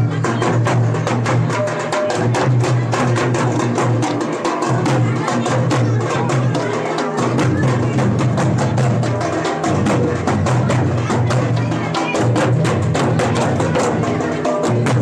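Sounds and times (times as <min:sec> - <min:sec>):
deep booming drum beat: 0:00.0 - 0:15.0
drum slaps: 0:00.0 - 0:15.0
hand drums playing fast rhythm: 0:00.0 - 0:15.0.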